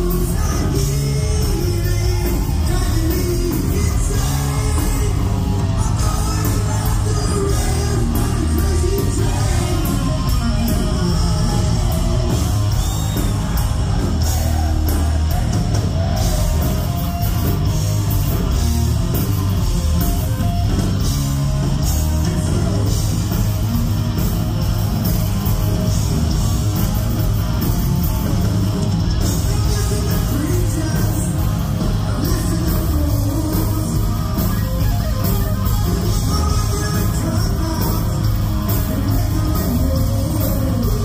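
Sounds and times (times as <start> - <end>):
bass: 0.0 - 41.0
drums with cymbal hits: 0.0 - 41.0
electric guitar: 0.0 - 41.0.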